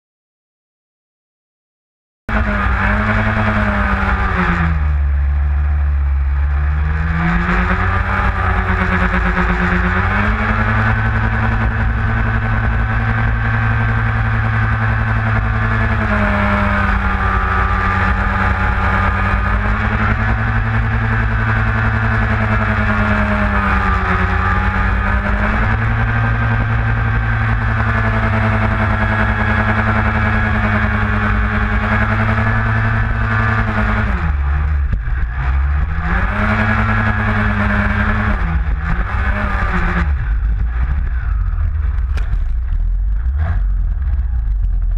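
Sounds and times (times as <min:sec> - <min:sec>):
outboard motor running: 0:02.3 - 0:44.9.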